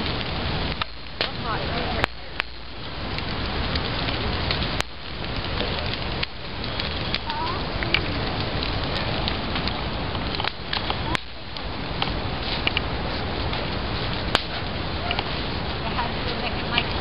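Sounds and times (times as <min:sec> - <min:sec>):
fire popping and crackling: 0:00.0 - 0:17.0
rushing bonfire flames: 0:00.0 - 0:17.0.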